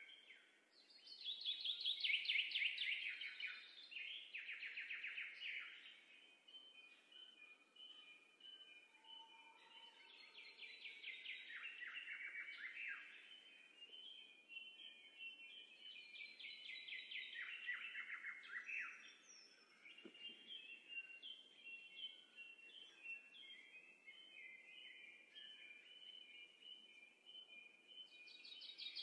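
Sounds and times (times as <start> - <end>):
songbird trills: 0.0 - 29.0
whistled bird chirps: 0.0 - 29.0.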